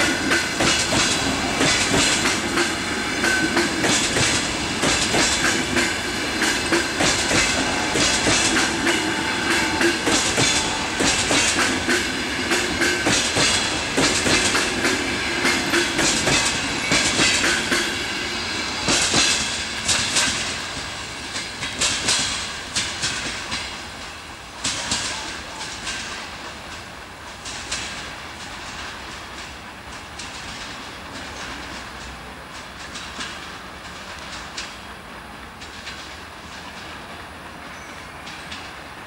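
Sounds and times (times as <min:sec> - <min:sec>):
low train rumble: 0:00.0 - 0:39.0
wheels clacking over rail joints: 0:00.0 - 0:39.0.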